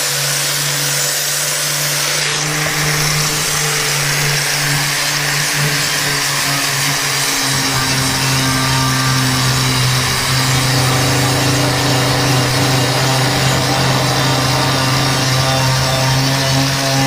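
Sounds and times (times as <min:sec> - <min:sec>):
wire brush grinder scouring steel: 0:00.0 - 0:17.0.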